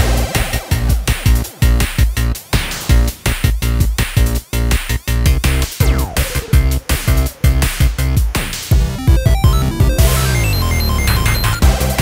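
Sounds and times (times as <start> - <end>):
music with heavy beat: 0.0 - 12.0.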